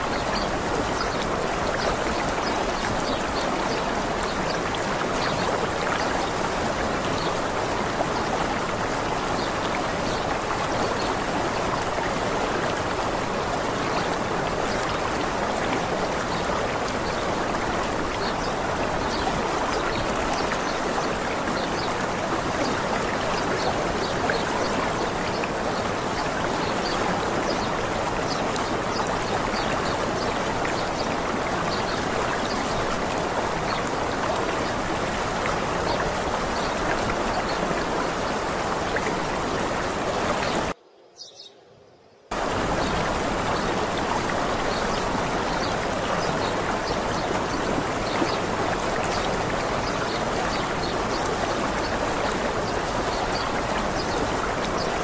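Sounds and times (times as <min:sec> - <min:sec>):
running water: 0:00.0 - 0:40.8, 0:42.3 - 0:55.0.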